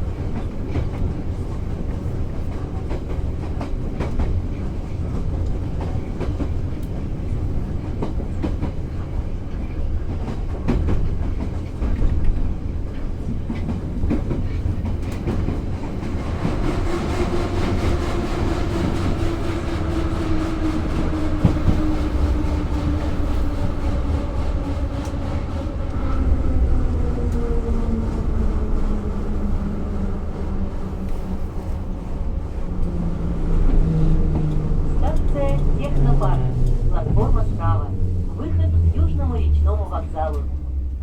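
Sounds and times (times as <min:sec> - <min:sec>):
train low rumble: 0:00.0 - 0:41.0.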